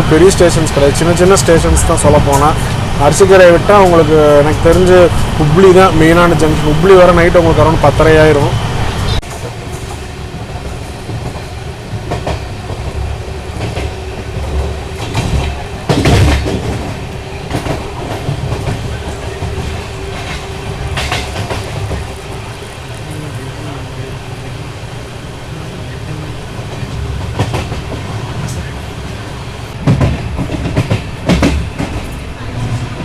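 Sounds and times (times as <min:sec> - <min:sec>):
train wheels rumbling on rails: 0:00.0 - 0:33.0
wheels clanking over rail joints: 0:00.0 - 0:33.0.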